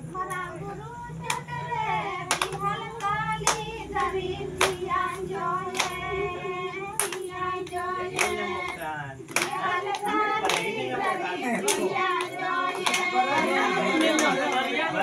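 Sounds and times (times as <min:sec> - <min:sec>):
group singing a folk song: 0:00.0 - 0:15.0
hand clapping: 0:01.2 - 0:15.0.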